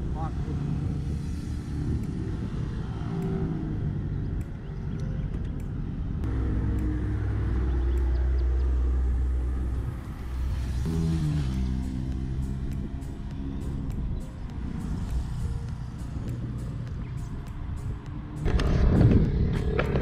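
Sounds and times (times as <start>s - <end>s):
motorcycle and car engines: 0.0s - 20.0s
wind and road rumble: 0.0s - 20.0s.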